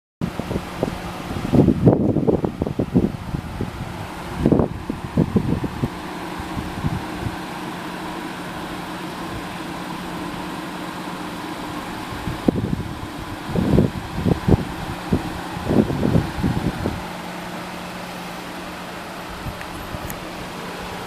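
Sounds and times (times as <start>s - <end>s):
car engine idling: 0.2s - 21.0s.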